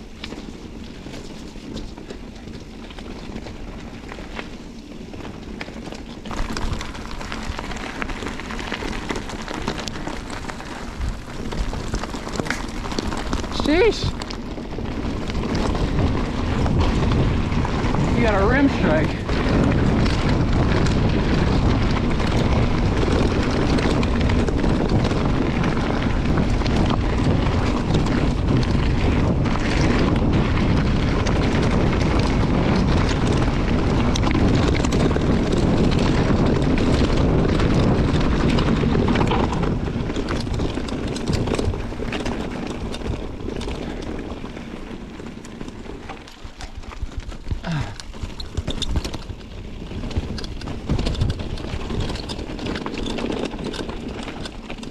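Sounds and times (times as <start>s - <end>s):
bike rattles: 0.0s - 54.9s
bike tyre rumble: 0.0s - 54.9s
wind rushing over microphone: 0.0s - 54.9s.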